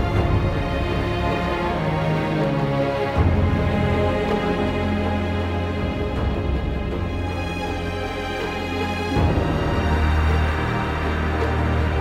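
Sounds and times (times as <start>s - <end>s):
epic orchestral music: 0.0s - 12.0s.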